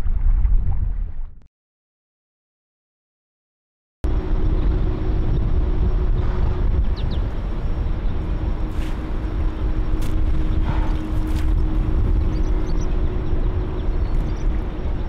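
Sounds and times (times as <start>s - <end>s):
low rumbling: 0.0s - 1.5s, 4.0s - 15.0s.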